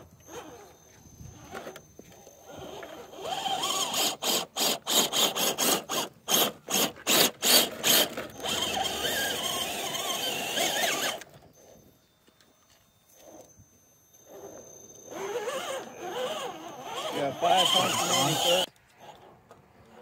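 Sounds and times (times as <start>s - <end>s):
electric motor whining: 0.0s - 11.8s, 14.2s - 19.3s.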